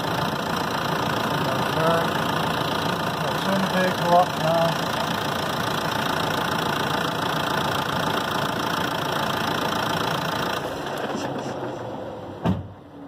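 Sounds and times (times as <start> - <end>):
air conditioning running: 0.0 - 11.2
car engine idling: 0.0 - 12.4.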